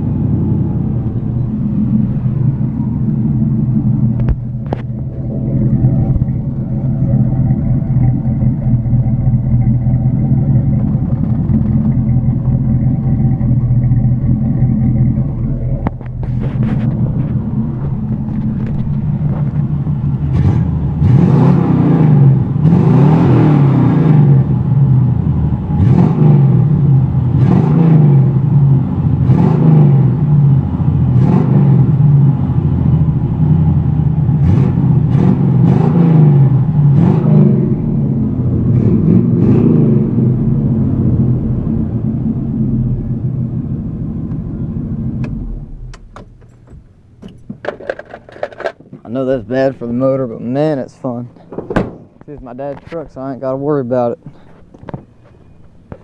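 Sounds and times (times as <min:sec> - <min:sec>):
vee eight engine idling: 0:00.0 - 0:22.8, 0:30.0 - 0:56.0
engine revving: 0:00.0 - 0:46.1.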